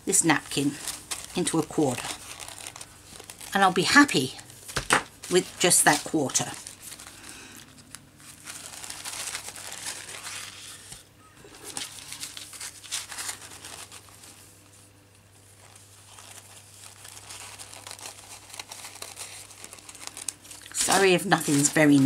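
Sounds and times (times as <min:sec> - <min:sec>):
paper napkin rustling and crinkling: 0:00.1 - 0:22.0.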